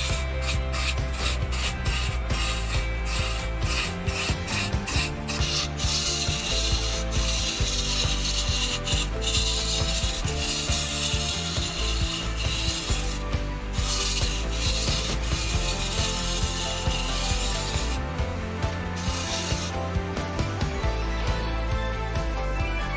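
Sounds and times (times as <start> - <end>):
turning tool scraping wood on lathe: 0.0 - 20.5
electric motor hum: 0.0 - 20.7.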